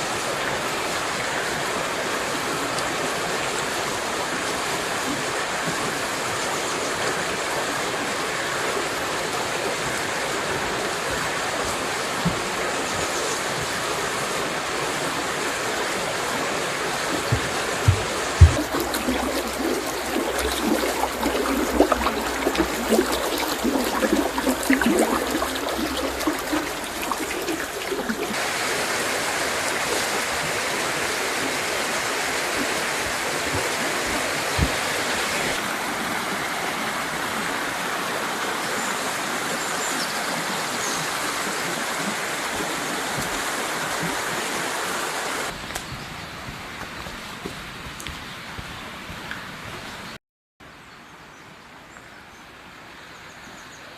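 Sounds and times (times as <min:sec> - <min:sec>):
river water rushing over rocks: 0:00.0 - 0:45.8.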